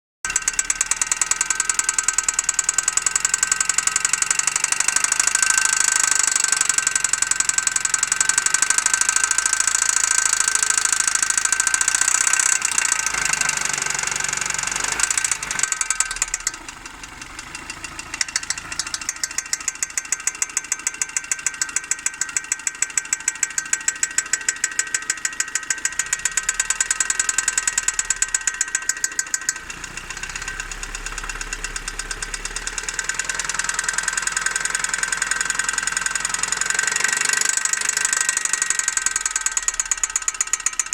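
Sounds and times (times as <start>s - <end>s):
car engine metallic ticking: 0.2s - 40.9s.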